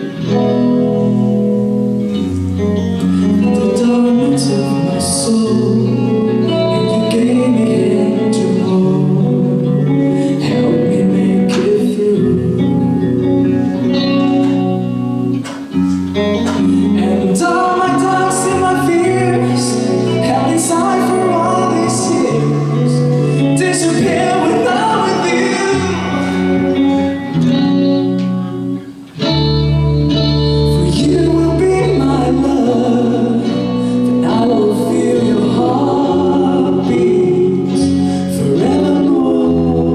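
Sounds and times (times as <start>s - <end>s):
drums: 0.0s - 39.9s
electric guitar: 0.0s - 39.9s
hard rock band playing: 0.0s - 39.9s
person singing: 2.1s - 28.4s, 29.2s - 39.9s.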